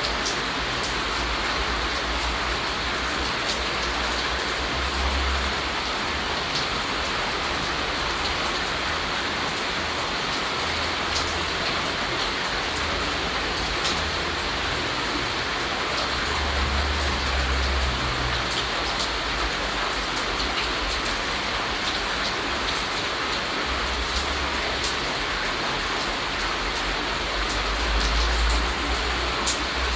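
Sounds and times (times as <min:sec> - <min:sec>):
raindrops ticking: 0:00.0 - 0:29.9
steady rain falling: 0:00.0 - 0:29.9.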